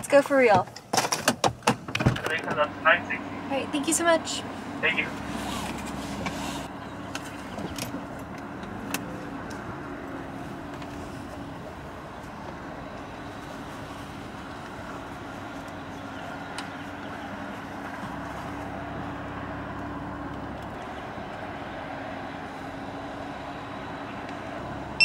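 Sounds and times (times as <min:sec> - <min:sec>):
car engine idling: 0:02.2 - 0:25.0.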